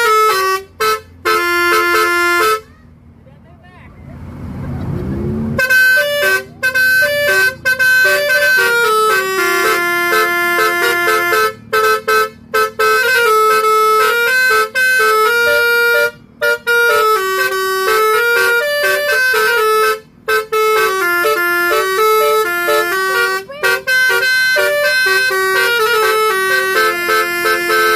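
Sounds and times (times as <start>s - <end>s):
musical vehicle horn playing tune: 0.0s - 2.8s, 5.6s - 27.9s.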